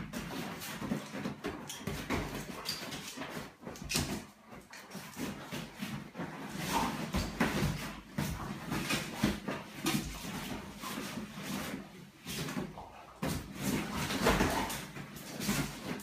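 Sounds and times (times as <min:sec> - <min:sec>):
dogs scuffling in fabric bed: 0:00.0 - 0:16.0.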